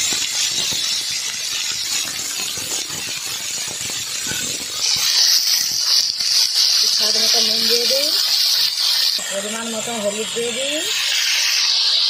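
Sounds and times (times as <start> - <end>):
vegetables frying in hot oil: 0.0 - 12.0.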